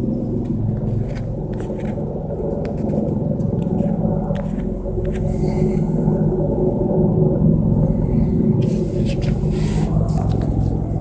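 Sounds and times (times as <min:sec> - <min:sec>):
helicopter rotor and engine rumble: 0:00.0 - 0:11.0.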